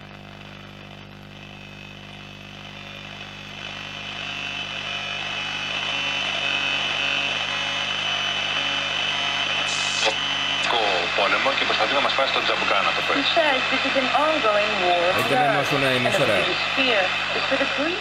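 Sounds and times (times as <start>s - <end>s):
low mains hum: 0.0s - 18.0s
radio static hiss: 0.0s - 18.0s.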